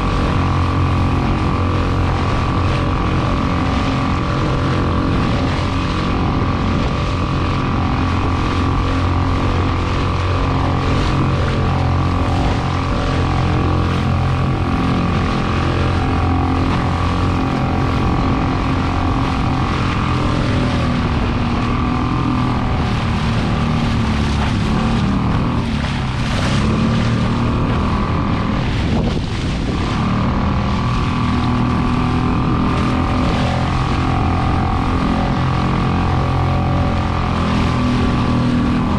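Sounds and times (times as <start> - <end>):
boat motor running: 0.0 - 38.9.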